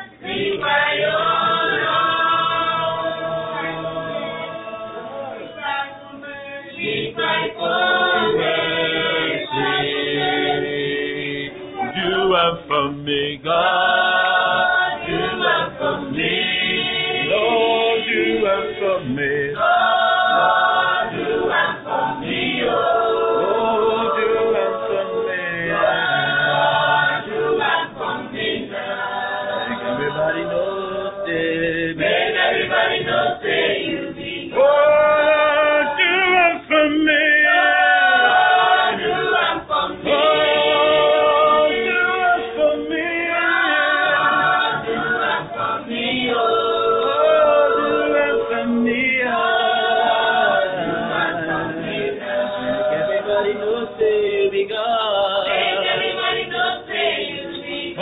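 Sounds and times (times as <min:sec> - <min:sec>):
group singing a cappella: 0:00.0 - 0:58.0.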